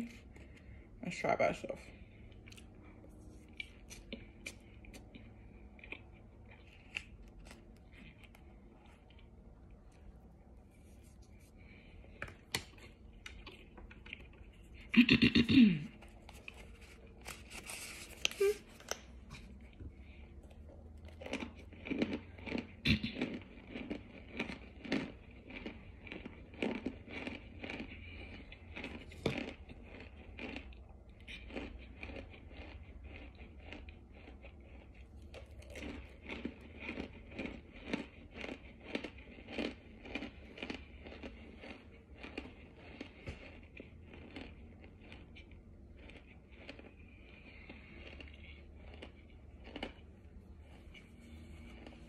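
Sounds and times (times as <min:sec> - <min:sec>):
chewing crunches: 0:02.0 - 0:52.0.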